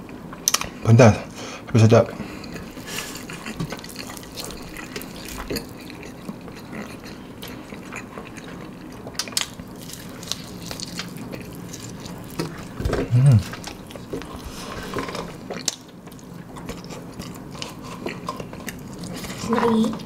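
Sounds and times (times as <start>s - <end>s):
wet chewing: 2.2s - 20.0s.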